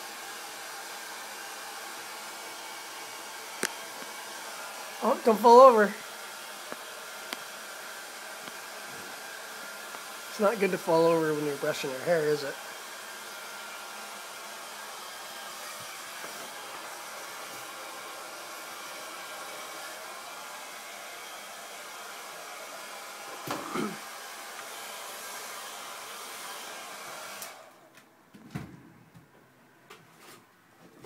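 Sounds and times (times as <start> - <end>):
blower motor rushing: 0.0 - 27.9.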